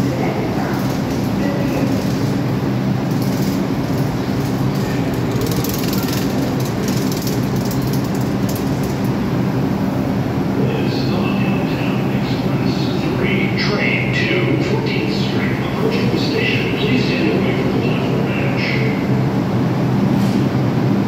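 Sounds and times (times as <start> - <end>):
subway train hum and rumble: 0.0 - 21.0.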